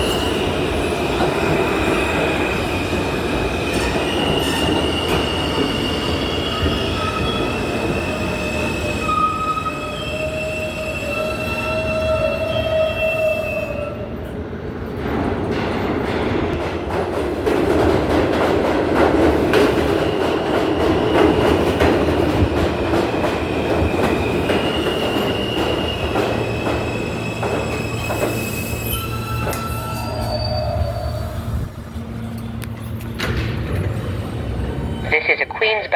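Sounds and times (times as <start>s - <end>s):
subway train wheels squealing: 0.0s - 17.2s, 19.2s - 35.2s
heavy train rumble: 0.0s - 35.9s.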